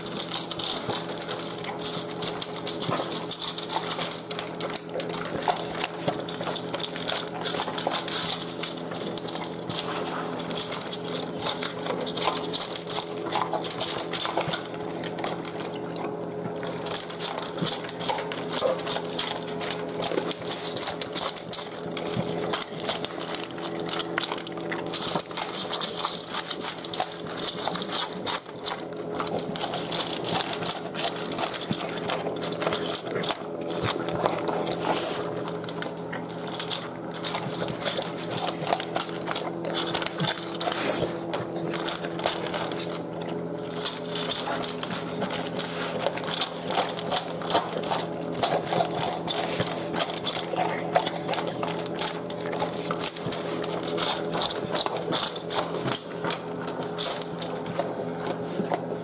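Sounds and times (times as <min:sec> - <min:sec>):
teeth and food clicking on pan: 0:00.0 - 0:58.9
dog chewing and lapping: 0:00.0 - 0:59.0
steady low hum: 0:00.0 - 0:59.0.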